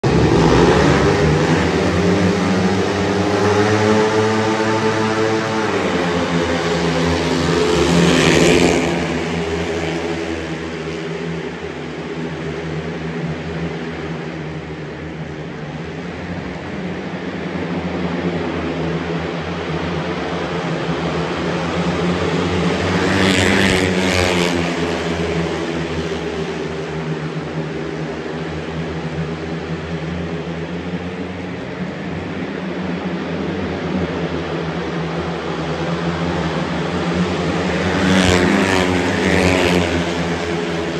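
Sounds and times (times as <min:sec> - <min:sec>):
motorbikes racing: 0:00.0 - 0:40.9.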